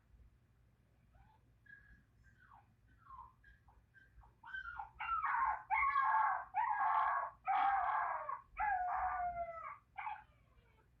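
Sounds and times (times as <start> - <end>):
puppy whining and yelping: 1.1 - 11.0.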